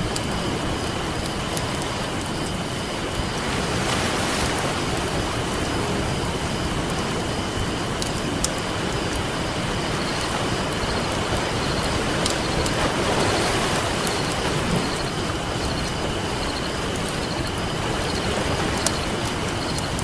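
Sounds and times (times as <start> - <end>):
campfire pops and crackles: 0.0 - 20.0
ocean surf washing on beach: 0.0 - 20.0.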